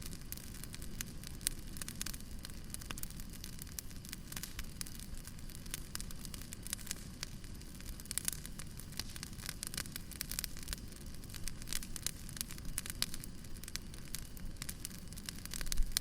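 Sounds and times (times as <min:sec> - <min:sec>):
burning logs snapping and popping: 0:00.0 - 0:16.0
low rumble of flame: 0:00.0 - 0:16.0.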